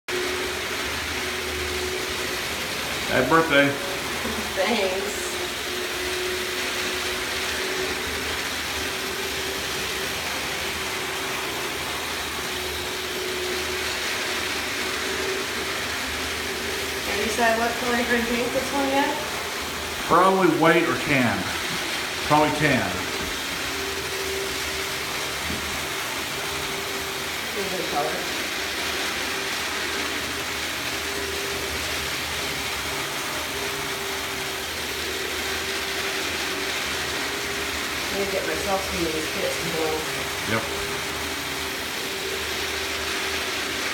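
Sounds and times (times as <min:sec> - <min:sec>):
model train motor whine: 0:00.1 - 0:43.9
wheels and gearing hiss: 0:00.1 - 0:43.9.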